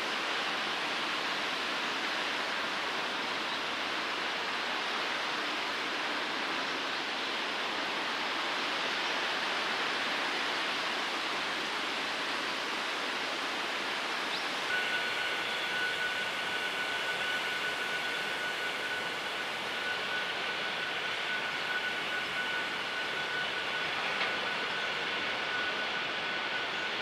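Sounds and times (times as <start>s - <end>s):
rushing outdoor background noise: 0.0s - 27.0s
steady high whine: 0.0s - 27.0s.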